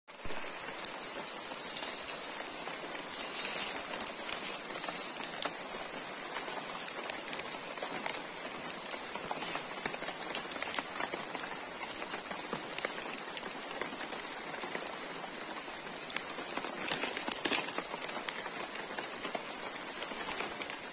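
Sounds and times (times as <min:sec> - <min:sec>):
rain pattering on leaves: 0:00.1 - 0:20.9.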